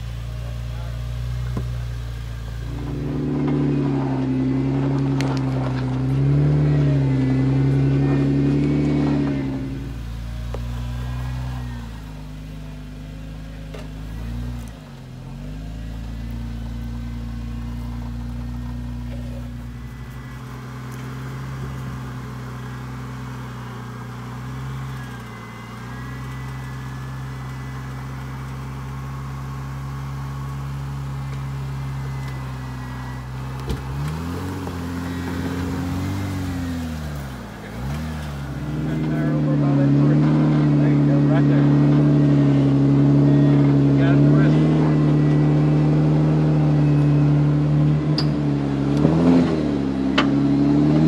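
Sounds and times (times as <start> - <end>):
car engine revving at low revs: 0.0 - 51.0.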